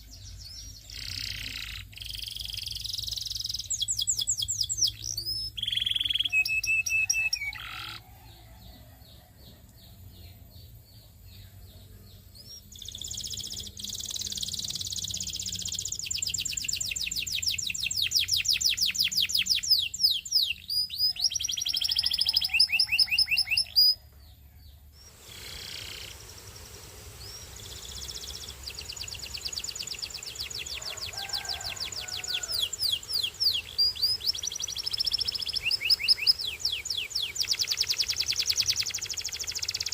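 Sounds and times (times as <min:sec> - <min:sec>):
canary singing rapid trills: 0:00.8 - 0:08.0, 0:12.4 - 0:24.0, 0:25.0 - 0:39.9.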